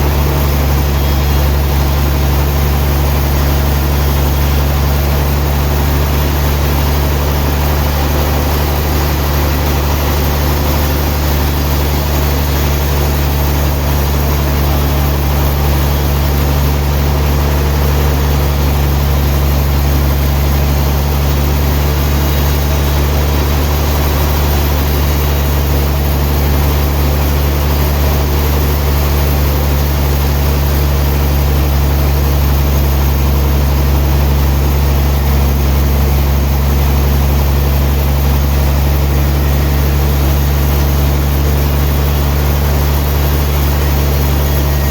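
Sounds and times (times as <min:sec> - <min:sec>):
sawmill machinery running: 0:00.0 - 0:44.9.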